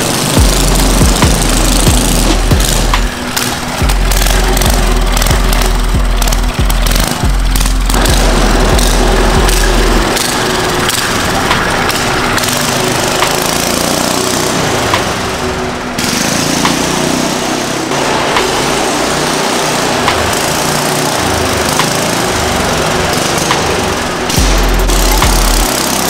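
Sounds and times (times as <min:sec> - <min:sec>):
small gas engine running: 0:00.0 - 0:26.0.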